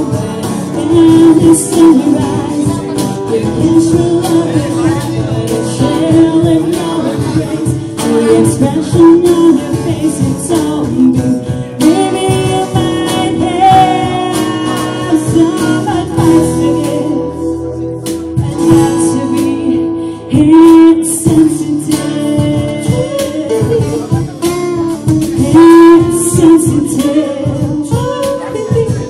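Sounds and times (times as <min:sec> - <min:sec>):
acoustic guitar: 0:00.0 - 0:29.0
woman singing: 0:00.0 - 0:29.0.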